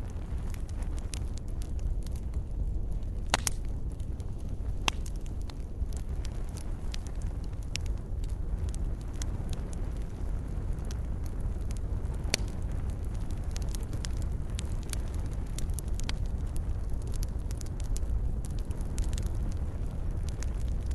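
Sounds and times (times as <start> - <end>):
fire crackling and popping: 0.0 - 20.9.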